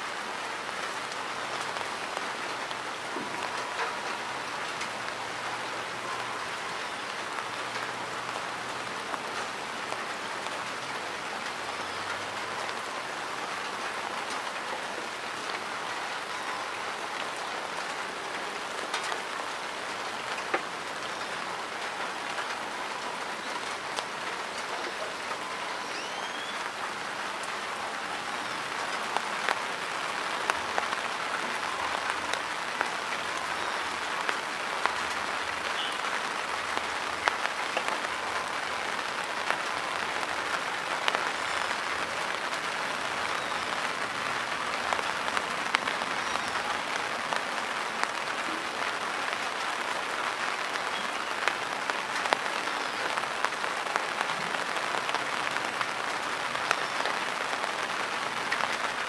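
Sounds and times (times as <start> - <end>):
rain on water and grass: 0.0 - 59.0.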